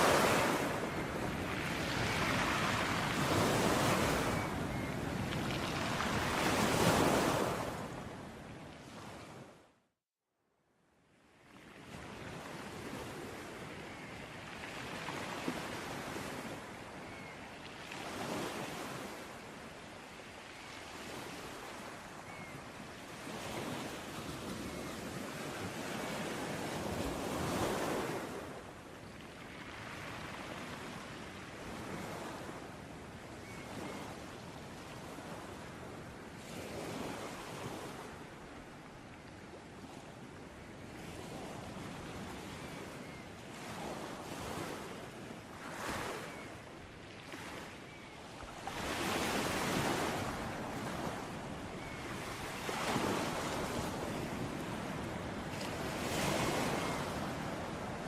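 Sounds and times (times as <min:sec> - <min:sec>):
ocean waves breaking on shore: 0:00.0 - 0:09.7, 0:11.4 - 0:58.0.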